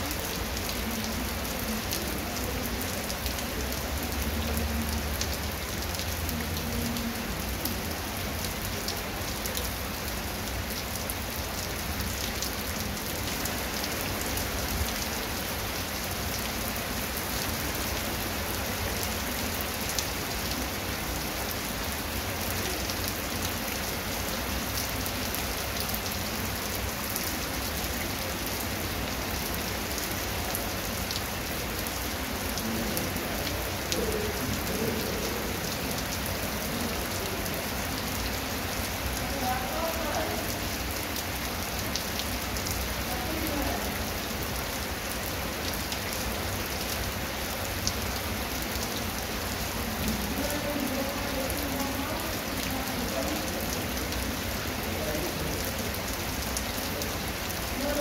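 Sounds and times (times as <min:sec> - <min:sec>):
heavy rain on concrete and grass: 0:00.0 - 0:58.0.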